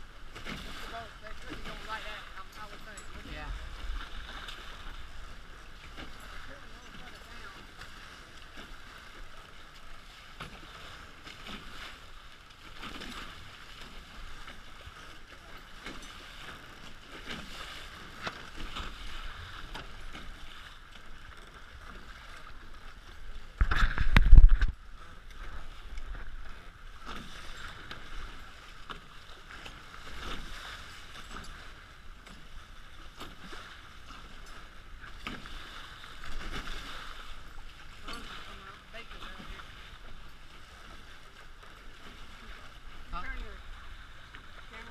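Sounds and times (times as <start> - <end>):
water rushing along boat hulls: 0.0 - 44.9.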